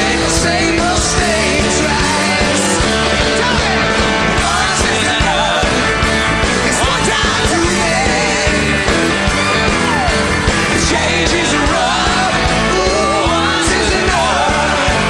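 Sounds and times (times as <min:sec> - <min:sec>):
male lead vocal singing: 0:00.0 - 0:09.1, 0:10.7 - 0:15.0
live rock band playing: 0:00.0 - 0:15.0.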